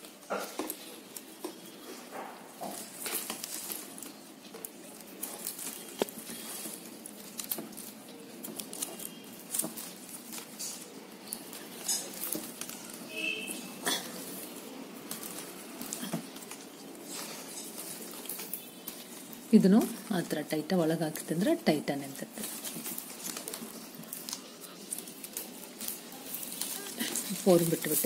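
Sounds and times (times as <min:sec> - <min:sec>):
plastic wire rustling and clicking: 0:00.0 - 0:28.0.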